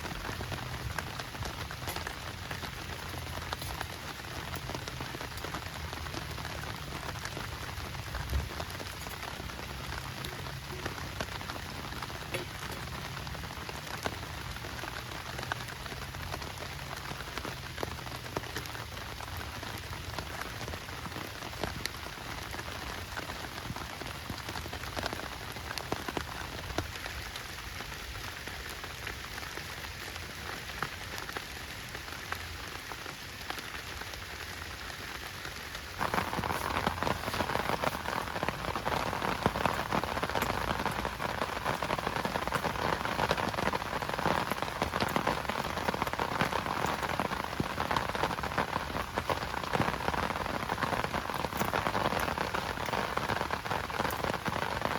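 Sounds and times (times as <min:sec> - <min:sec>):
heavy rain falling: 0:00.0 - 0:54.9
raindrops tapping close by: 0:00.0 - 0:54.9.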